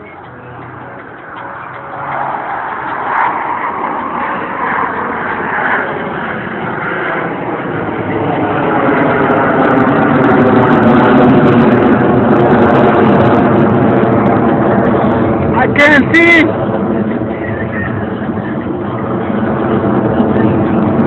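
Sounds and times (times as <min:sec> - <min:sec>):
jet aircraft roar: 0:00.0 - 0:21.0.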